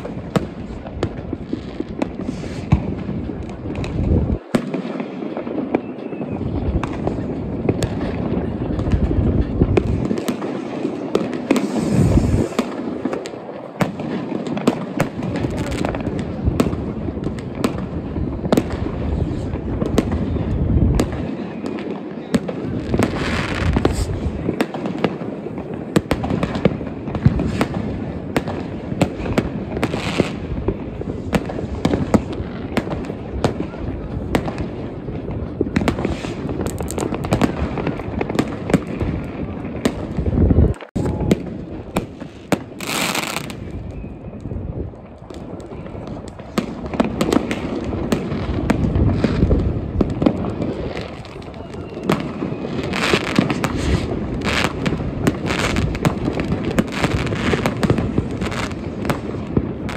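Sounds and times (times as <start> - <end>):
fireworks banging and crackling: 0.0 - 59.9.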